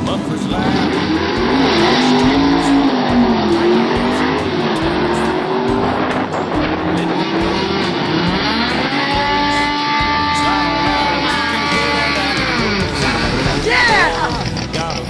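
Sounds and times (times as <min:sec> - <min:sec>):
car engine revving: 0:00.0 - 0:15.0
tires squealing: 0:00.0 - 0:15.0.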